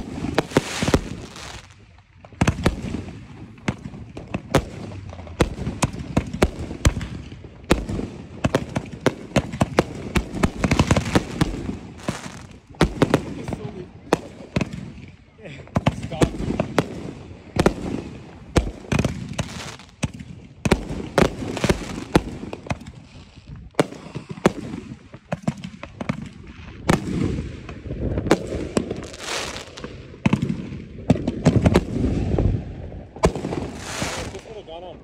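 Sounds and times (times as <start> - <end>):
fireworks bursting with sharp bangs: 0.0 - 35.0
fireworks crackling: 0.0 - 35.0.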